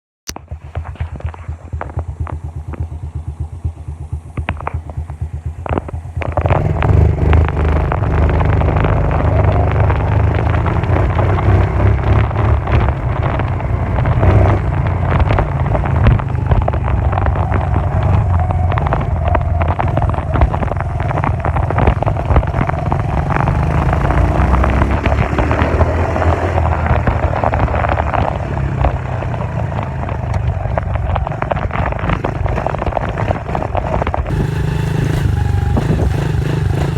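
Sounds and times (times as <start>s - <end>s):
dirt bike engine running: 0.3s - 36.9s.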